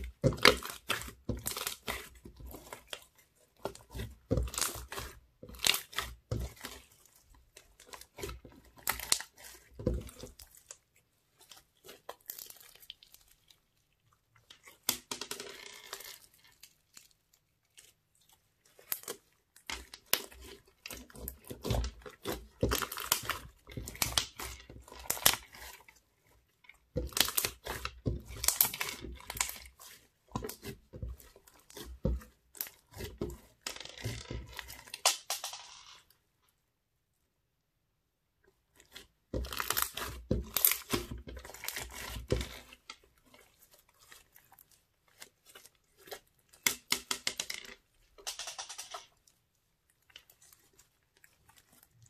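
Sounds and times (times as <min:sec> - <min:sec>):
crunchy slime crackling: 0:00.0 - 0:35.1, 0:38.7 - 0:48.2, 0:49.1 - 0:52.0.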